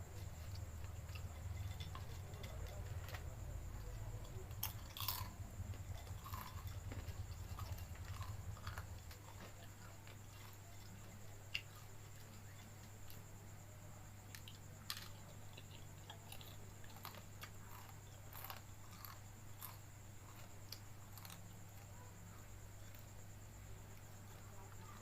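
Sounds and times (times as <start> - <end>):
close chewing and mouth sounds: 0.0 - 13.4, 14.1 - 25.0
low steady hum: 0.0 - 25.0.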